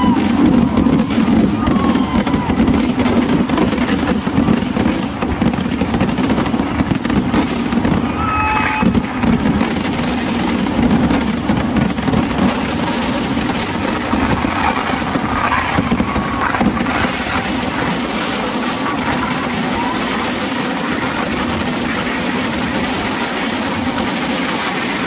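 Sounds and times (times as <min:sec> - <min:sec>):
firecrackers crackling: 0:00.0 - 0:25.0.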